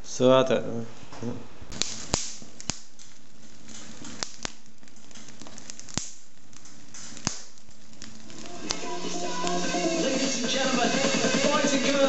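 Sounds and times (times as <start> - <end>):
wood fire crackling: 1.7 - 12.0.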